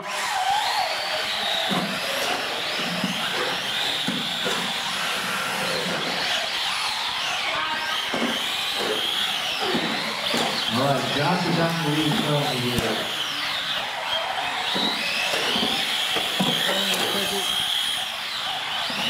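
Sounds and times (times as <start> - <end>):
rc car motors whining: 0.0 - 19.0.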